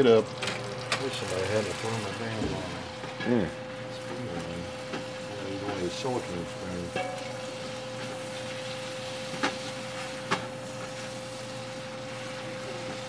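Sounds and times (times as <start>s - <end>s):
food sizzling in a pot: 0.0s - 13.0s
steady hum: 0.0s - 13.0s.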